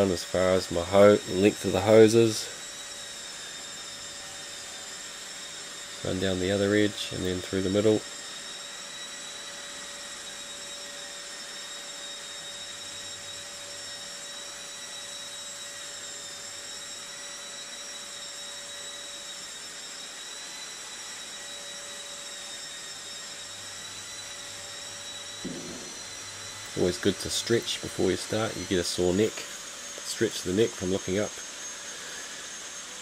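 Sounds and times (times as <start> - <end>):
drywall sander whining: 0.0 - 33.0
dust extractor vacuum running: 0.0 - 33.0.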